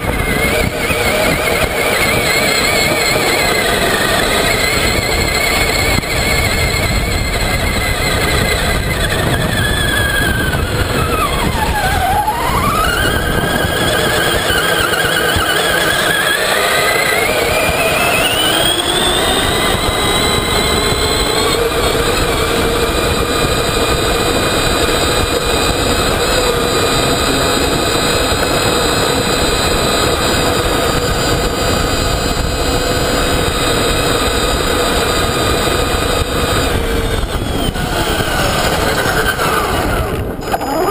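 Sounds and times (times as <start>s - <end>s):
electric motor whining: 0.0s - 40.9s
wind noise: 0.0s - 40.9s.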